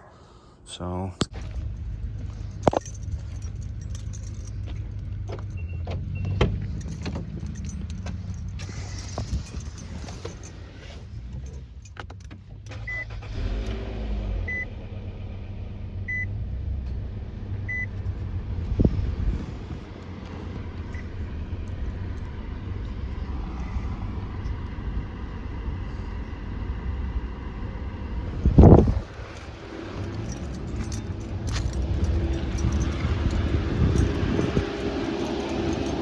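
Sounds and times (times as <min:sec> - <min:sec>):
low steady rumble: 0:01.3 - 0:05.8, 0:06.4 - 0:13.2, 0:14.6 - 0:36.0.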